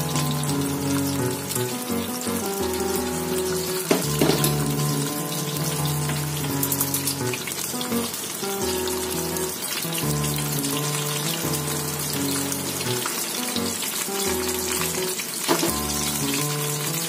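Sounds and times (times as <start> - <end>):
background music with held chords: 0.0 - 17.0
fish frying in oil: 0.0 - 17.0.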